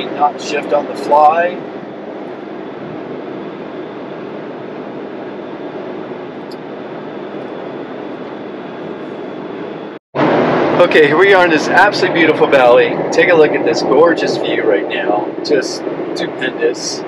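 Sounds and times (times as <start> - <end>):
road and wind noise: 0.0 - 17.0
truck engine hum: 0.0 - 17.0.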